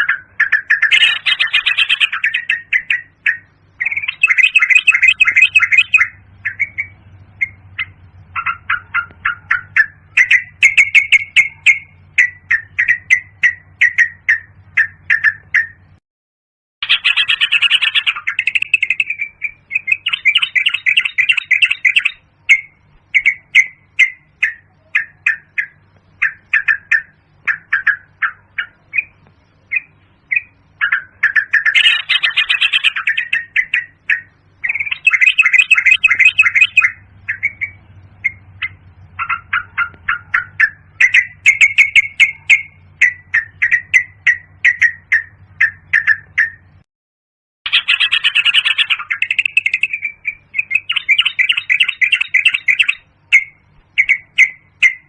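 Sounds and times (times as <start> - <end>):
bulbul calling: 0.0 - 16.0, 16.8 - 46.8, 47.7 - 55.0.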